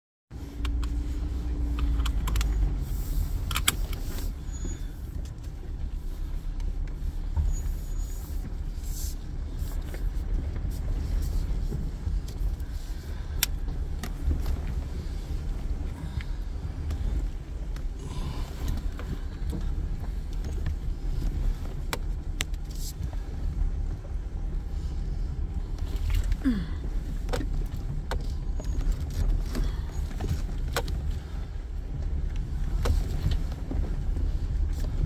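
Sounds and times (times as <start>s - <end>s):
off-road vehicle rumbling: 0.3s - 35.0s.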